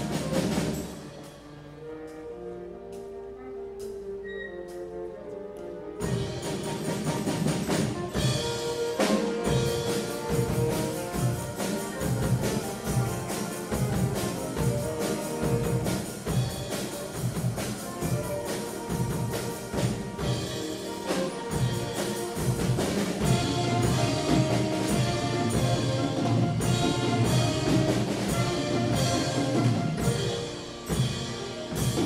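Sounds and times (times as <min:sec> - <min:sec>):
drum kit steady beat: 0:00.0 - 0:01.2, 0:06.0 - 0:32.0
wind band playing: 0:00.0 - 0:32.0.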